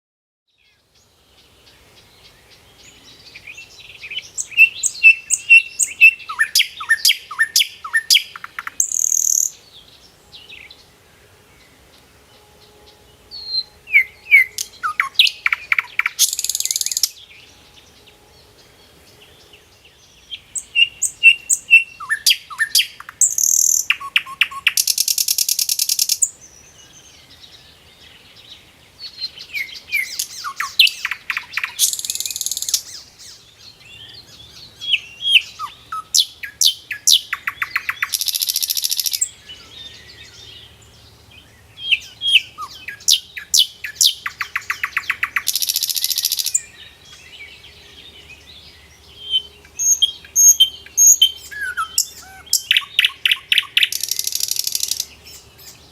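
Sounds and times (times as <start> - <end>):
songbird singing: 0.5 - 55.9.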